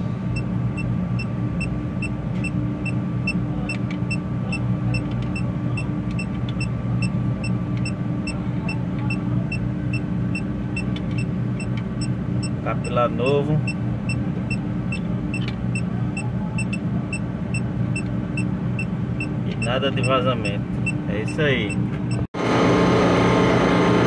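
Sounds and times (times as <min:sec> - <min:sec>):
compressor humming: 0:00.0 - 0:24.0
leak detector beeping: 0:00.3 - 0:22.3.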